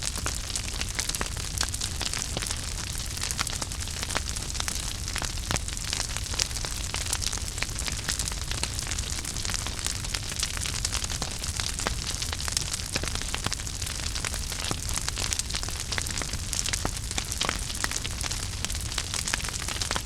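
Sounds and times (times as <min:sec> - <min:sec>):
wood fire burning: 0:00.0 - 0:20.0.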